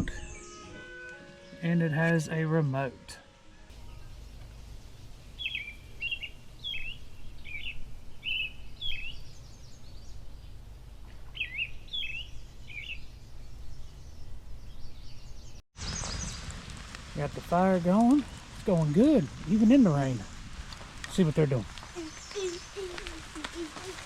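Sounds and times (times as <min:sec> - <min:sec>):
songbird chirping: 0:00.0 - 0:16.6, 0:21.1 - 0:24.0
low outdoor rumble: 0:03.7 - 0:24.0.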